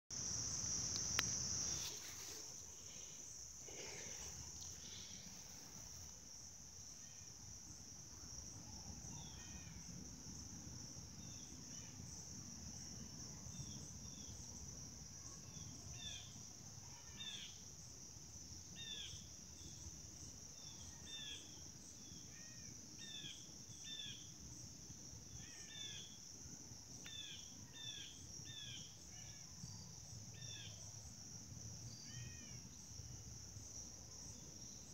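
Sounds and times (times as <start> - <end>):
crickets trilling: 0.1 - 34.9.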